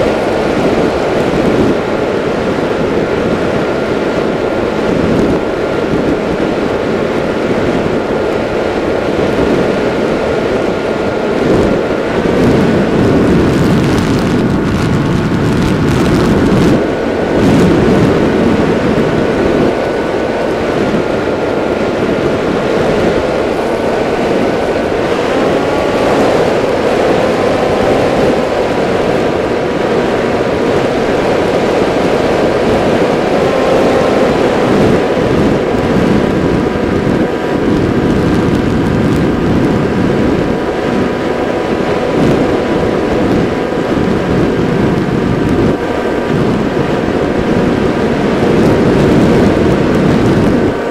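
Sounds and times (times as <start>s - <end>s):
electric motor and propeller whining: 0.0s - 50.9s
wind rushing on microphone: 0.0s - 50.9s.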